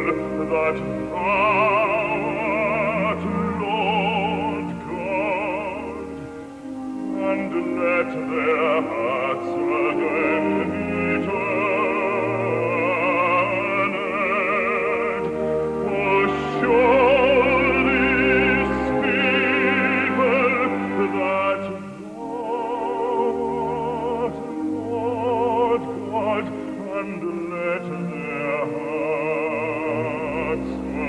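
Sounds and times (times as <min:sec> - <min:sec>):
operatic man singing: 0:00.0 - 0:06.3, 0:07.0 - 0:31.0
instrumental accompaniment: 0:00.0 - 0:31.0.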